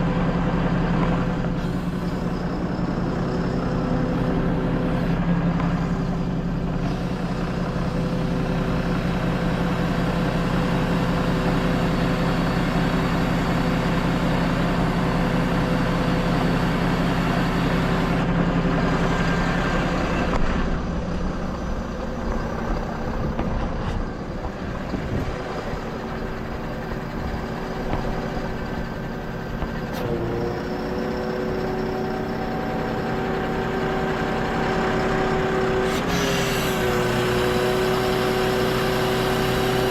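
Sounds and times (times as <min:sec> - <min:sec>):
heavy truck engine running: 0:00.0 - 0:39.9.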